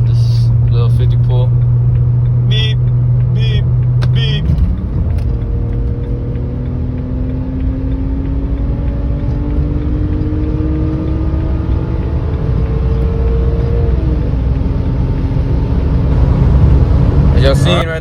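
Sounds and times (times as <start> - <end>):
car engine accelerating: 0.0 - 18.0
road rumble: 0.0 - 18.0.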